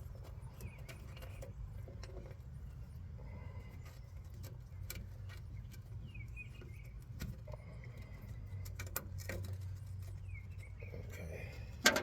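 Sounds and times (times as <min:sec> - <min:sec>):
bird chirp: 0:00.0 - 0:08.6, 0:09.4 - 0:11.8.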